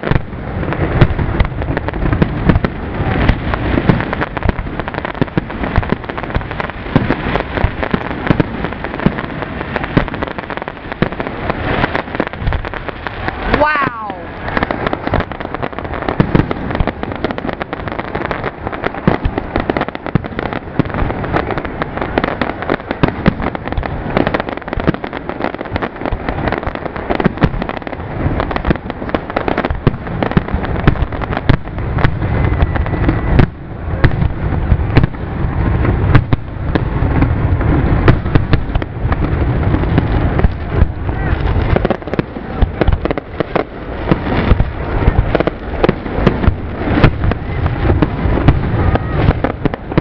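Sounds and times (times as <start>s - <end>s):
deep firework bangs: 0.0s - 50.0s
firework shell bursts and crackling: 0.0s - 50.0s.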